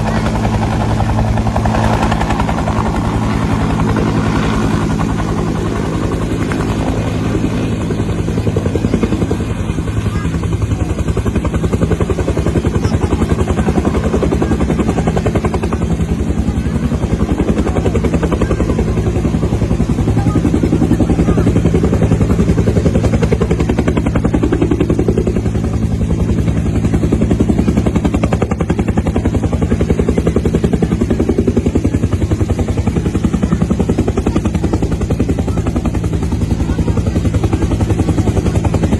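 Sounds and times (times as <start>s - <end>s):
helicopter engine hum: 0.0s - 38.9s
helicopter rotor thudding: 0.0s - 38.9s.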